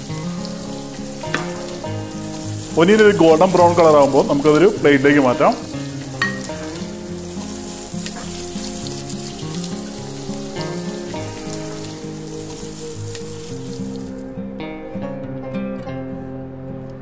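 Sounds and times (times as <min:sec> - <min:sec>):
onions sizzling in hot oil: 0:00.0 - 0:14.3
soft background music: 0:00.0 - 0:17.0.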